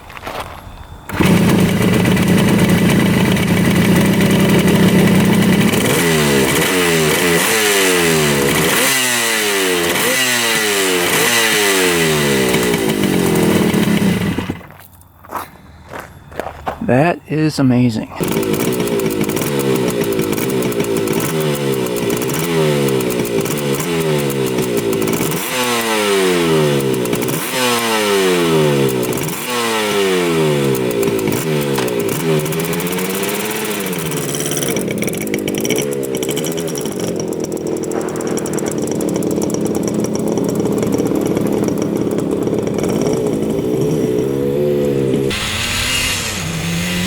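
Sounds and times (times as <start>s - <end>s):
two-stroke motorcycle engine revving: 1.1s - 14.7s, 18.2s - 47.0s.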